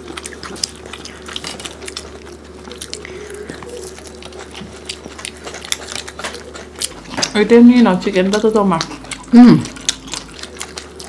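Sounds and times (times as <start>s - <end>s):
chewing and biting: 0.0s - 11.0s.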